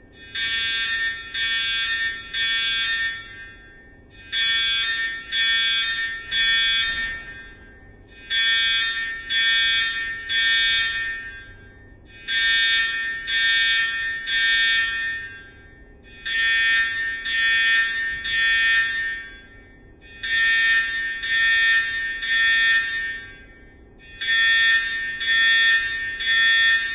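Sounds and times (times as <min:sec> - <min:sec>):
fire alarm long beeps: 0:00.0 - 0:26.9.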